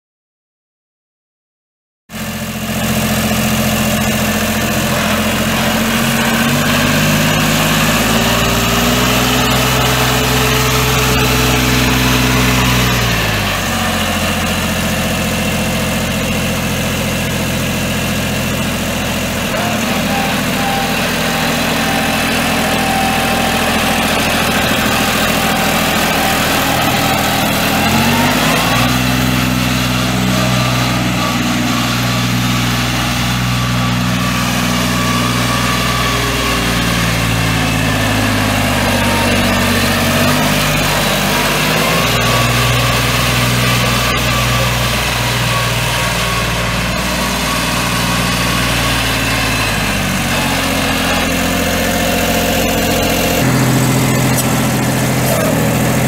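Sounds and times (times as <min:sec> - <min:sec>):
tractor diesel engine revving: 0:02.1 - 0:56.0.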